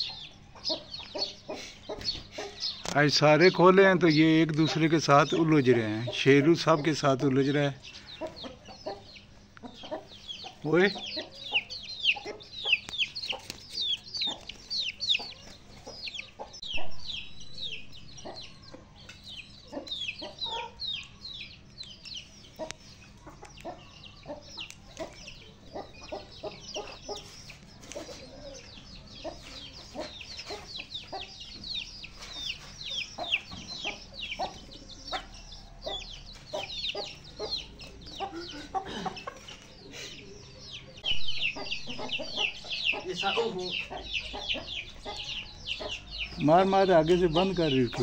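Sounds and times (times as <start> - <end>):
chicks peeping: 0.0 - 48.0
hens and roosters clucking: 0.0 - 48.0.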